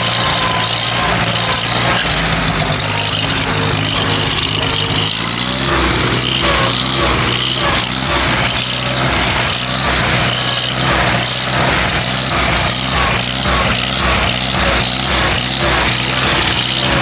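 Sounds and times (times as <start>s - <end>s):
tractor engine running rough: 0.0s - 17.0s.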